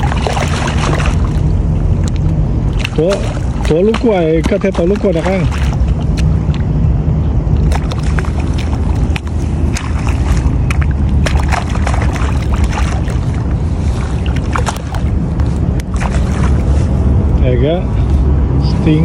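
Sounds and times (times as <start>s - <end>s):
fish thrashing and splashing: 0.0s - 6.8s, 7.4s - 17.4s
wind buffeting microphone: 0.0s - 19.0s.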